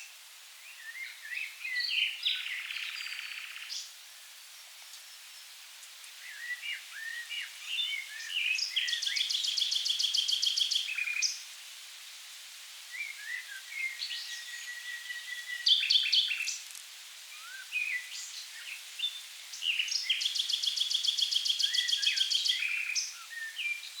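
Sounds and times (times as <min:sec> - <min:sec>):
nightingale singing: 0:00.0 - 0:04.0, 0:04.8 - 0:11.5, 0:12.9 - 0:16.7, 0:17.3 - 0:24.0
background hiss: 0:00.0 - 0:24.0.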